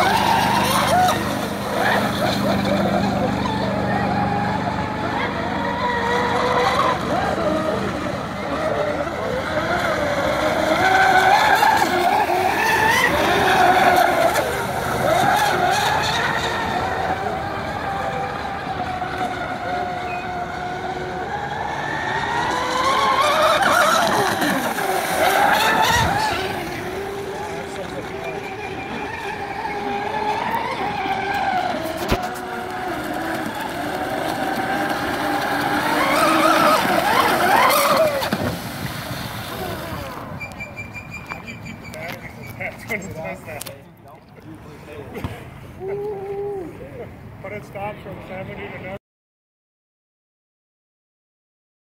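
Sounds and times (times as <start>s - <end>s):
boat motor and propeller whine: 0.0s - 49.0s.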